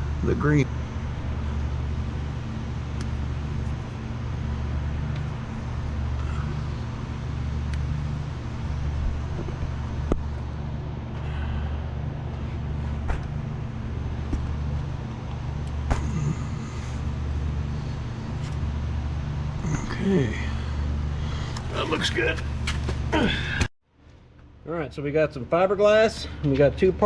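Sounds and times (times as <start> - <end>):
low engine-like hum: 0.0 - 23.7.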